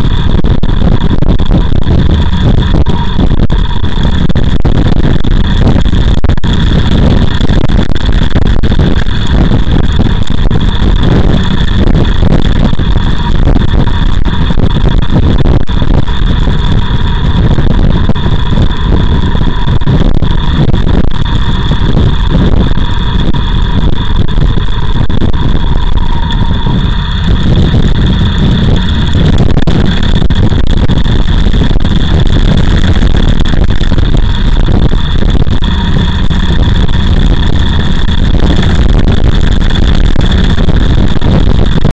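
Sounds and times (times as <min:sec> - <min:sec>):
motorcycle engine running: 0:00.0 - 0:41.9
thin high whine: 0:00.0 - 0:41.9.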